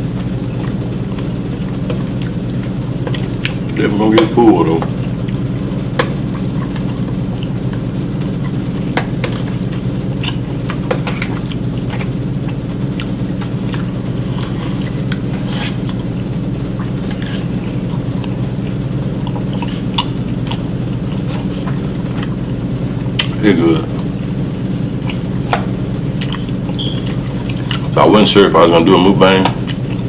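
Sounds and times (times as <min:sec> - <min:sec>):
chewing and mouth noises: 0:00.0 - 0:03.8, 0:04.9 - 0:24.2, 0:24.8 - 0:28.0, 0:29.6 - 0:30.0
low background hum: 0:00.0 - 0:30.0.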